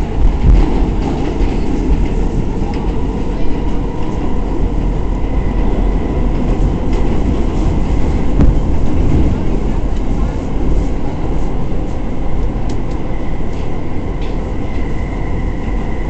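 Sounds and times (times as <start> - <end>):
subway car rumbling: 0.0 - 16.0.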